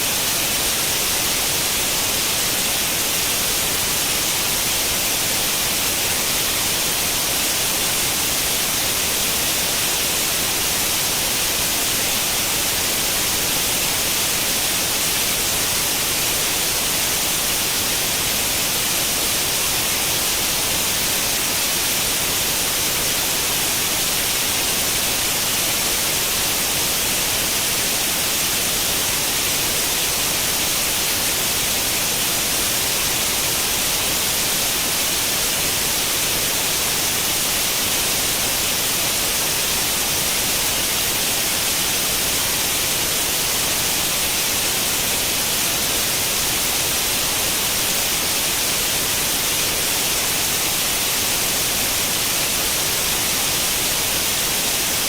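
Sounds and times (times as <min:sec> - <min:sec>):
white noise static hiss: 0:00.0 - 0:55.0.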